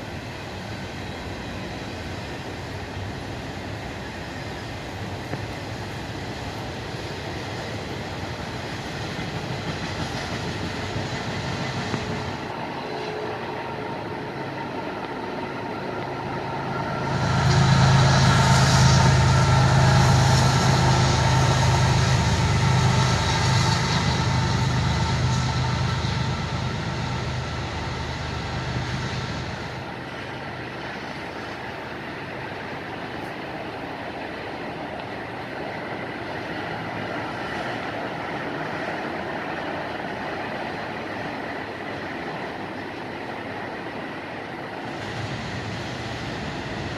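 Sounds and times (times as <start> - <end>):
diesel locomotive engine drone: 0.0 - 46.9
freight train cars rolling: 0.0 - 46.9.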